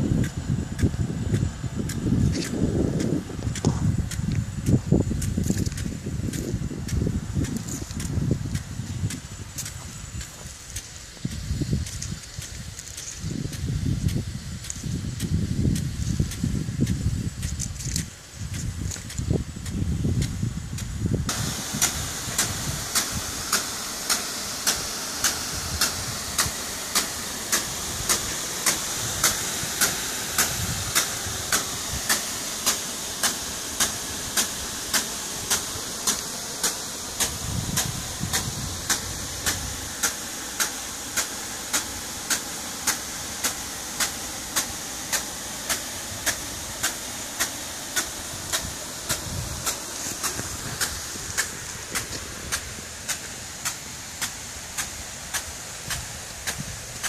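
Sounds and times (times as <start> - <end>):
sprinkler water jet hissing: 0.0 - 57.0
sprinkler gun ticking: 0.1 - 57.0.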